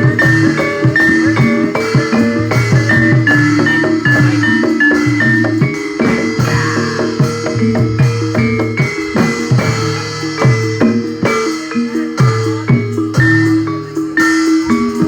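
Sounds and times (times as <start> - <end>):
drums beating: 0.0 - 15.0
ringing pitched percussion: 0.0 - 15.0.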